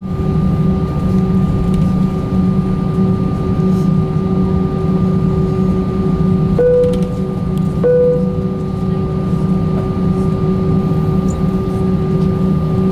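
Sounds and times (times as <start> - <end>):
airplane cabin hum: 0.0 - 12.9.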